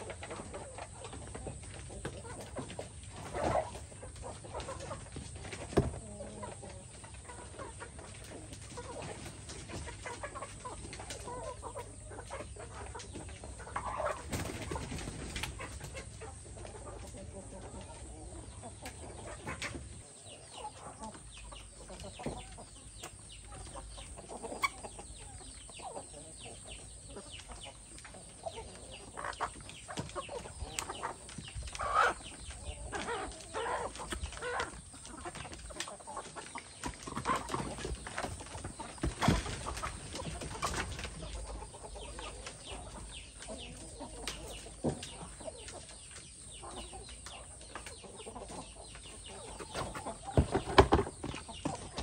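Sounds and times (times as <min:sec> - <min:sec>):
chickens clucking: 0:00.0 - 0:52.0.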